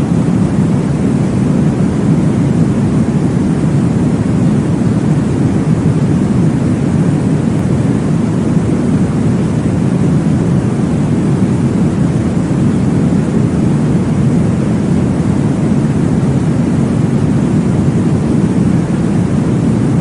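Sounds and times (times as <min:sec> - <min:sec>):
deep whooshing white noise: 0:00.0 - 0:20.0.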